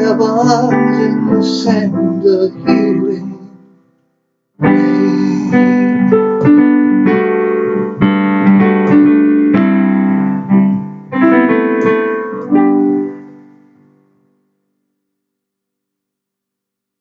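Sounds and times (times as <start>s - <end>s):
piano chords: 0.0s - 14.8s.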